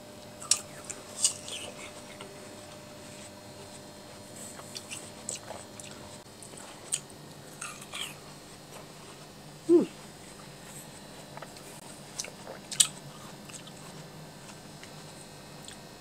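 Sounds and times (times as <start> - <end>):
people chewing watermelon: 0.4 - 16.0.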